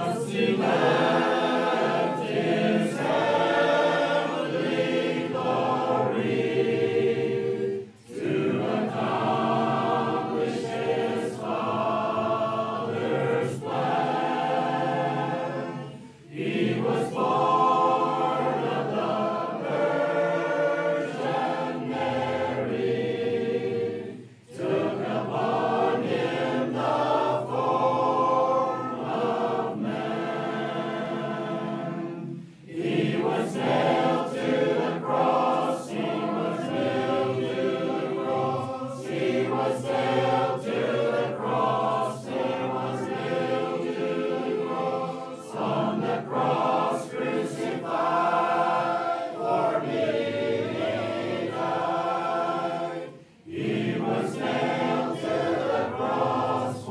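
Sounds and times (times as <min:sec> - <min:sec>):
choir singing: 0:00.0 - 0:56.9.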